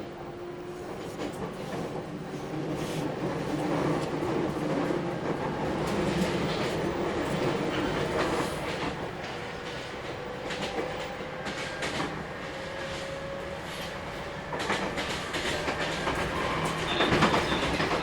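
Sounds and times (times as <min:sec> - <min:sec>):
train rumble and hiss: 0:00.0 - 0:18.0.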